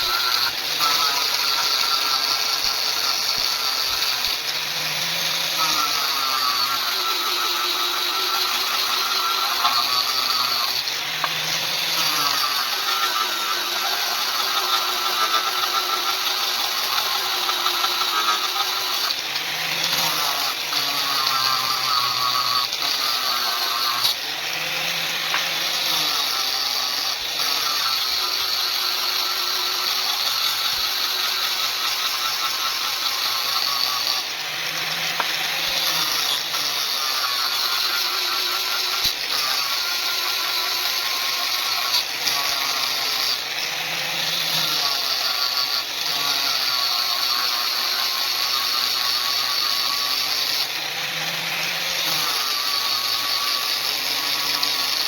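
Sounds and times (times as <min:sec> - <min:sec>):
power tool motor running: 0:00.0 - 0:55.0.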